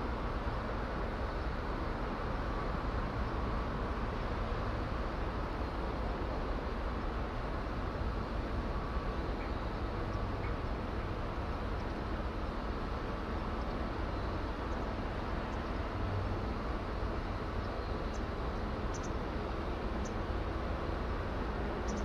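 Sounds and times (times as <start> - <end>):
outdoor background rumble and hiss: 0.0 - 22.0.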